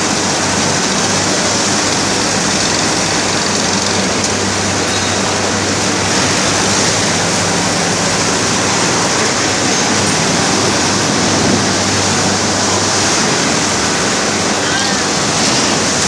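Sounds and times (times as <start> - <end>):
mill machinery rushing: 0.0 - 16.0.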